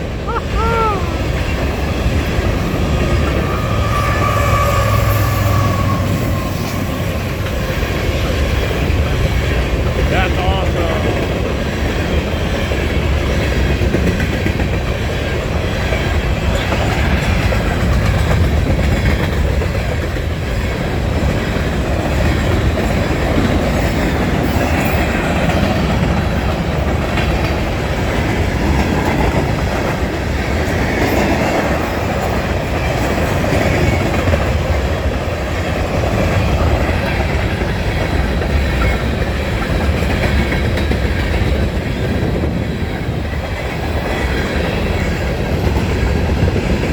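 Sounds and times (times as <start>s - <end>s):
freight train rolling past: 0.0s - 46.9s.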